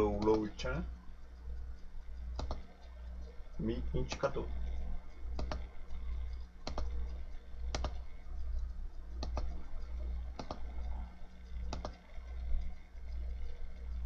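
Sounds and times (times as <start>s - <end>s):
steady low hum: 0.0s - 14.0s
computer mouse clicking: 0.1s - 14.0s.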